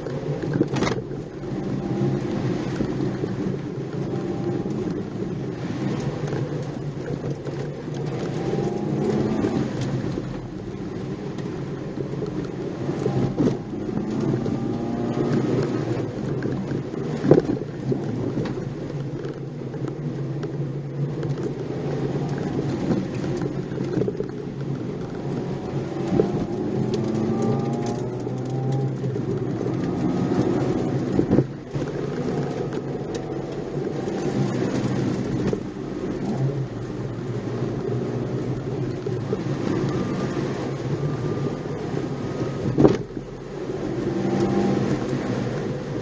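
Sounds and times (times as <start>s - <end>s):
car engine revving: 0.0s - 46.0s
tyre and road noise: 0.0s - 46.0s.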